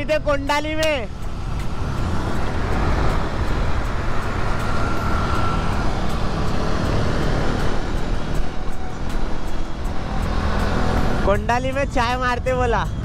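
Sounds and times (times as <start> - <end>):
motorcycle road rumble: 0.0 - 13.0
wind rush: 0.0 - 13.0.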